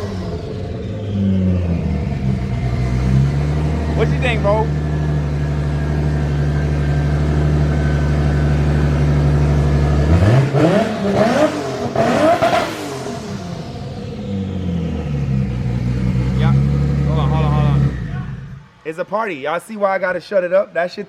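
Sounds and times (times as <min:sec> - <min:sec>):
car engine idling and revving: 0:00.0 - 0:18.8.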